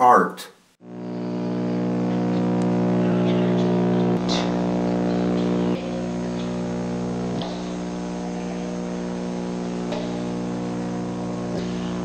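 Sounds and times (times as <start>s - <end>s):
low buzzing hum: 0.8s - 12.0s.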